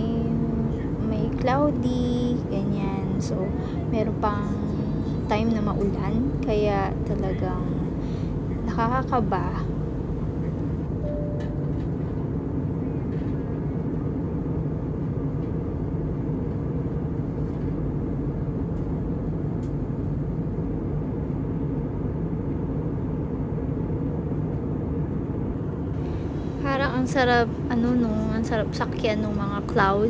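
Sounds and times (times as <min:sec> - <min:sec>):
jet airliner cabin drone: 0:00.0 - 0:30.0.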